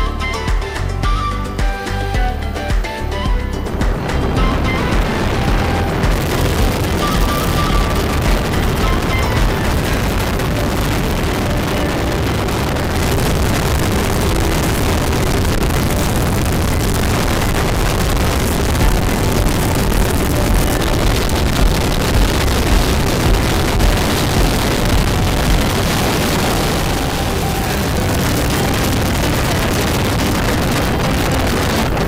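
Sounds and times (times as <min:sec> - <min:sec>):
wind rush on microphone: 0:00.0 - 0:32.0
motorcycle engine running: 0:03.3 - 0:32.0.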